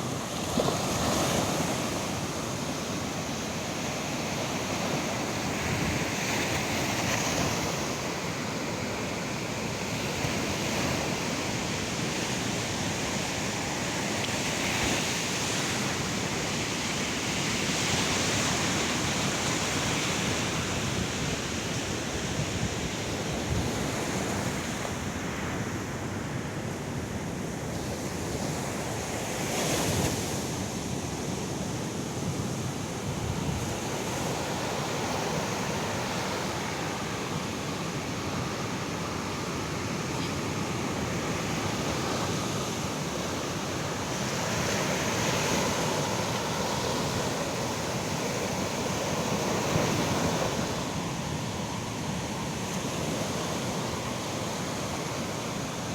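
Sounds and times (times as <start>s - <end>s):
waves breaking on beach: 0.0s - 55.9s.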